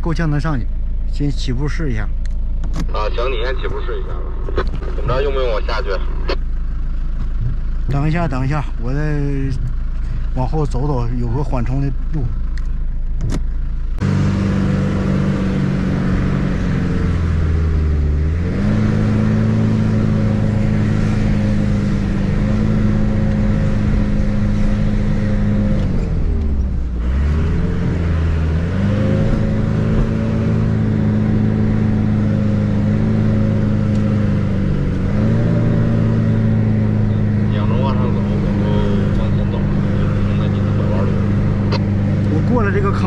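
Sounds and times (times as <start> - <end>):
van engine working hard: 0.0 - 43.0.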